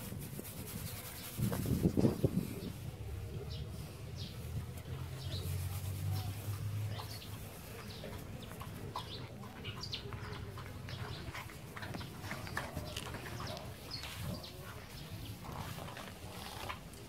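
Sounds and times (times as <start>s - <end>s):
puppies rustling in grass: 0.0s - 17.0s
small birds chirping: 0.5s - 17.0s.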